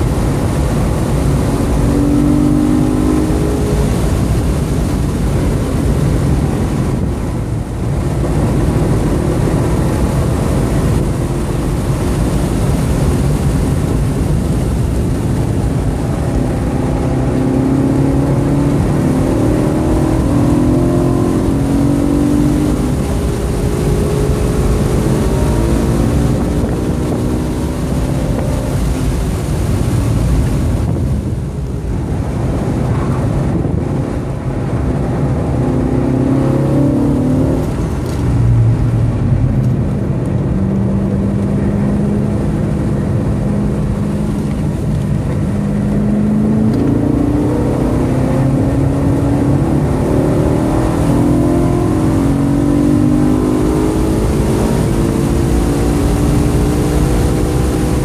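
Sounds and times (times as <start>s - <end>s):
car engine revving: 0.0s - 58.0s
tyre and road noise: 0.0s - 58.0s.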